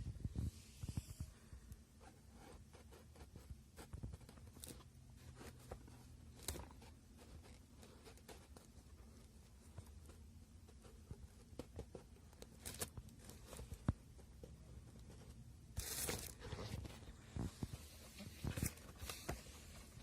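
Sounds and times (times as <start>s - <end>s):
steady low hum: 0.0s - 20.0s
faint handling clicks and scraping: 0.3s - 20.0s.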